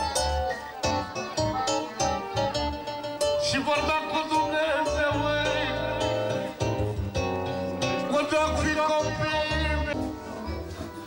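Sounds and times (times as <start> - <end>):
song with singing voice: 0.0 - 11.0.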